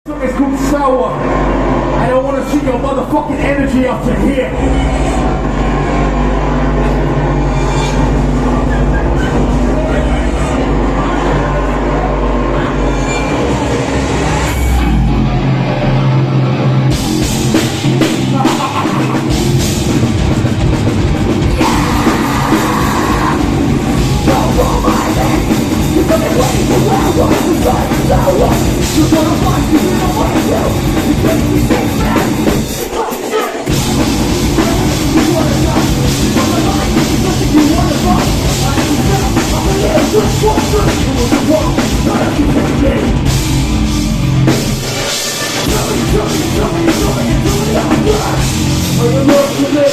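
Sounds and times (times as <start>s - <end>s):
live metal band playing: 0.1s - 49.9s.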